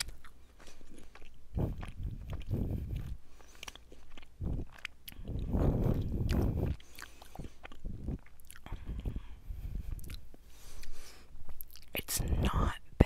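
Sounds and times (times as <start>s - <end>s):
person chewing: 0.0s - 12.1s.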